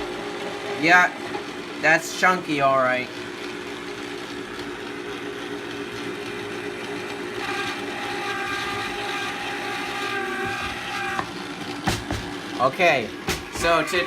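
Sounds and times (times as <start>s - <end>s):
ice cream maker motor humming: 0.0s - 14.0s.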